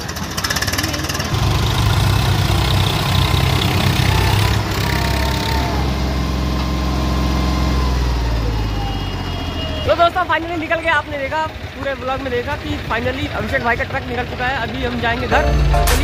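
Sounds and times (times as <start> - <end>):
tractor diesel engines revving: 0.0 - 16.0.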